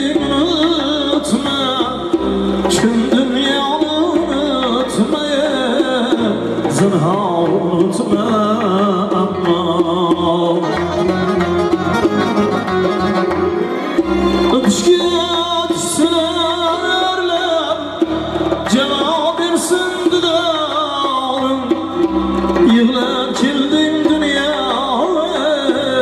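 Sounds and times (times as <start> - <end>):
electronic keyboard melody: 0.0 - 26.0
sharp percussive strikes: 0.0 - 26.0.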